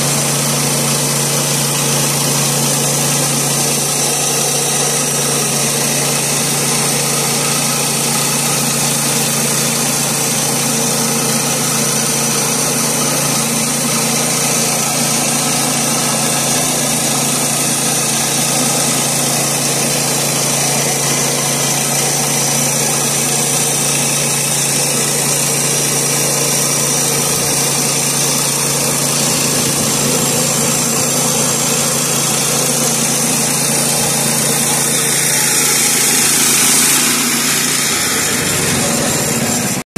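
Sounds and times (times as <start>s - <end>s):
band blade sawing wood: 0.0s - 39.8s
sawmill engine running: 0.0s - 39.9s.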